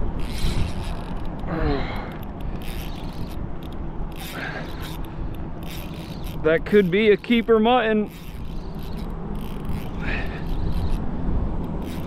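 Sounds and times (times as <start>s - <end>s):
fishing reel clicking and whirring: 0.0s - 12.0s.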